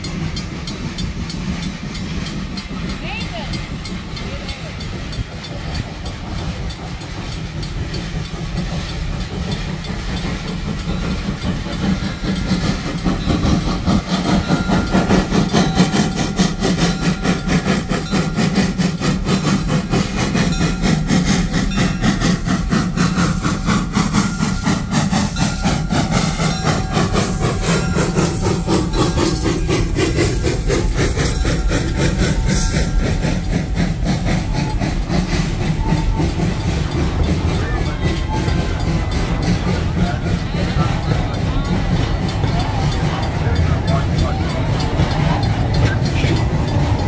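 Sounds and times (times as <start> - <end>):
low steady train rumble: 0.0 - 47.0
steam hissing: 0.0 - 47.0
train wheels clicking on rails: 0.0 - 47.0.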